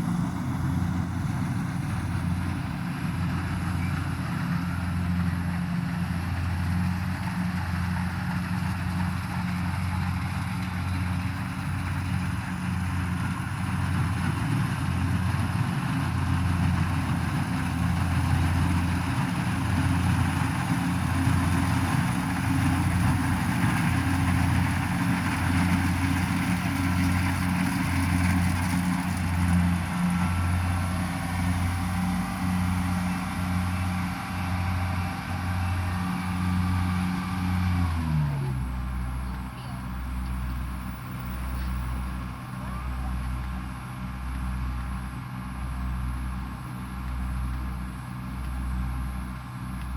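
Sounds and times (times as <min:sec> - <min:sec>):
harvester engine humming: 0:00.0 - 0:49.9.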